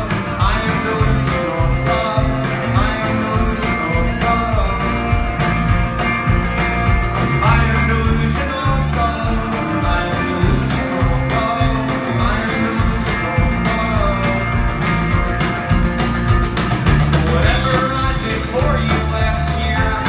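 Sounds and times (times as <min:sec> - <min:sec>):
drum beat: 0:00.0 - 0:20.0
rock band playing live: 0:00.0 - 0:20.0.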